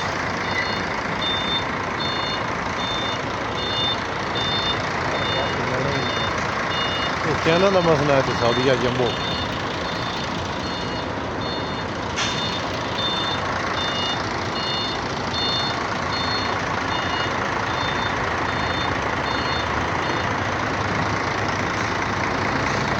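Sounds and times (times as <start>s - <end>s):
diesel truck engines running: 0.0s - 22.9s
truck reversing alarm beeping: 0.0s - 22.9s.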